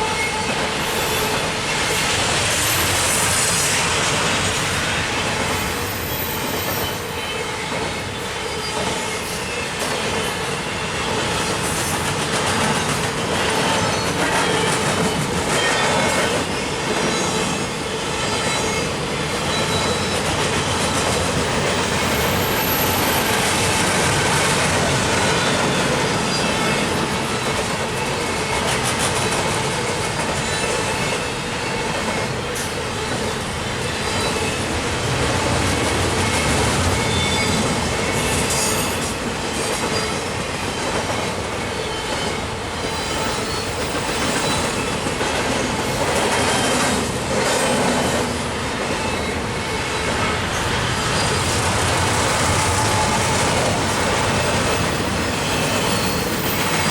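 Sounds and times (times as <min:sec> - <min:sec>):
freight train rumbling past: 0:00.0 - 0:56.9.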